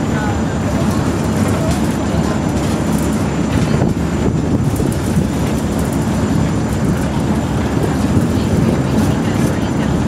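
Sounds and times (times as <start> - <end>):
elevator rumbling and rattling: 0.0 - 10.0.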